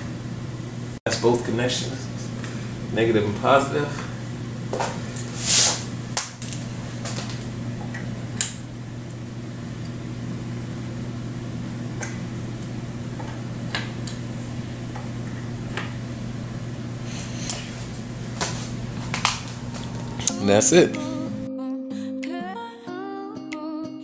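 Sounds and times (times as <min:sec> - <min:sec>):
steady low hum: 0:00.0 - 0:21.5.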